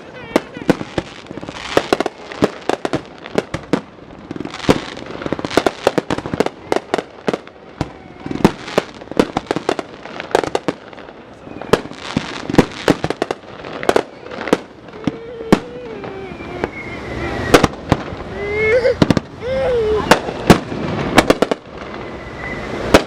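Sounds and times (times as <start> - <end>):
fireworks bangs and pops: 0.0 - 18.3, 19.0 - 19.4, 20.0 - 23.0.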